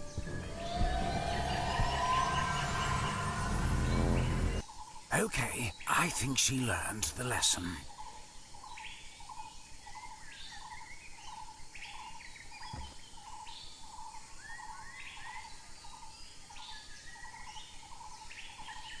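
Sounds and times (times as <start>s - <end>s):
birds chirping: 0.0s - 16.2s.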